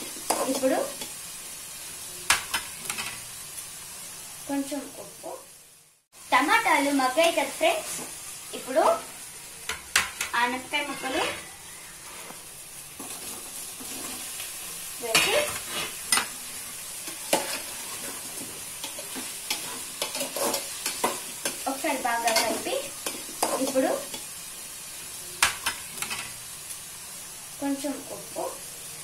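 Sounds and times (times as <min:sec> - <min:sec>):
vegetables sizzling in a pot: 0:00.0 - 0:29.0.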